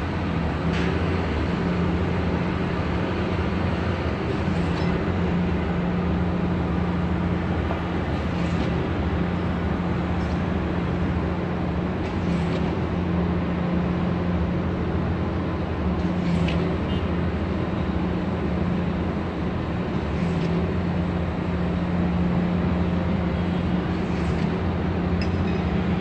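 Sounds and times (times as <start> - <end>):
low mechanical hum: 0.0 - 26.0
traffic rumble: 0.0 - 26.0.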